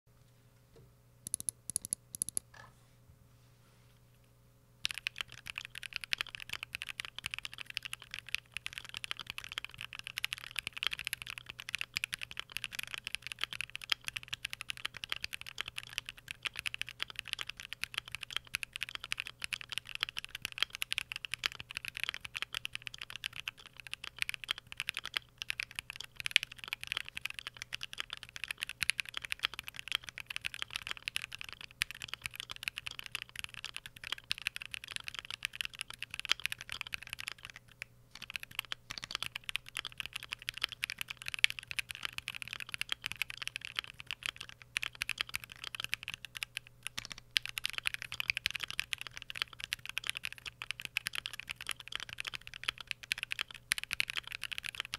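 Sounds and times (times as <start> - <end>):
mechanical keyboard typing: 1.2 - 2.6, 4.8 - 54.9.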